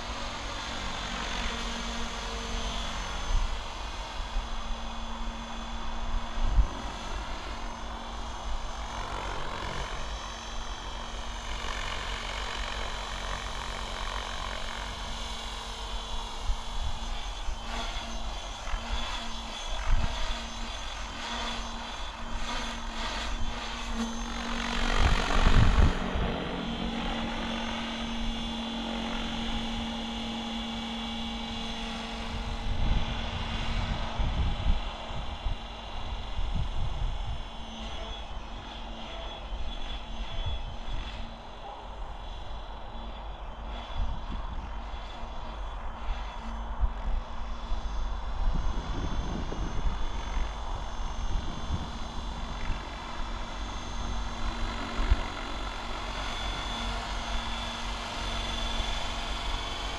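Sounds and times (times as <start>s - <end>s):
rc helicopter motor and rotor whine: 0.0s - 59.9s.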